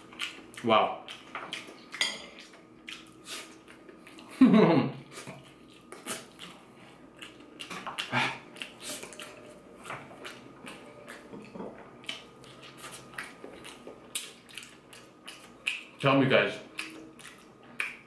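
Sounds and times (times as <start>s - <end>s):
close chewing with mouth clicks: 0.0s - 4.4s, 5.0s - 16.0s, 16.6s - 18.0s.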